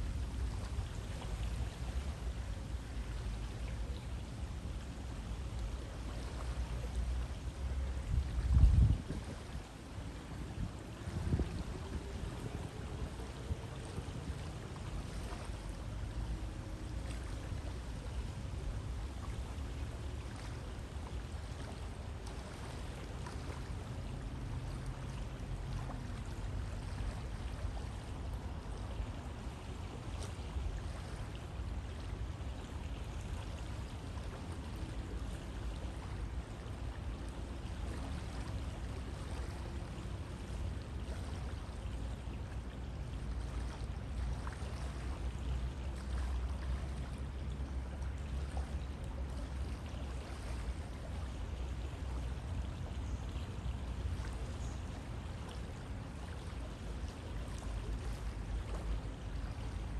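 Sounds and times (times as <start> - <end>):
river water flowing: 0.0 - 59.9
water splashes and gurgles: 0.0 - 59.9.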